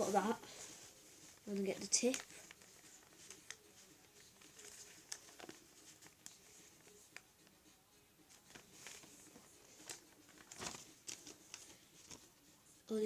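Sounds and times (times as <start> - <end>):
paper being folded and creased: 0.0 - 7.5, 8.3 - 12.3.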